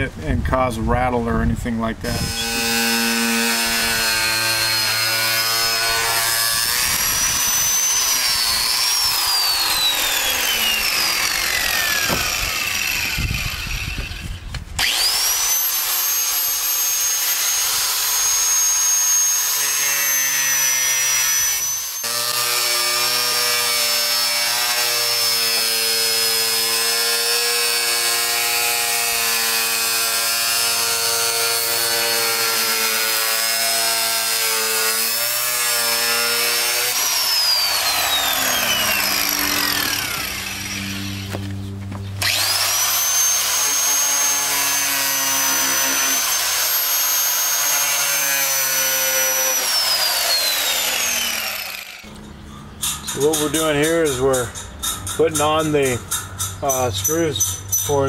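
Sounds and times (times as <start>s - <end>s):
rotary tool whining cutting plastic: 2.1s - 41.5s, 42.2s - 52.1s.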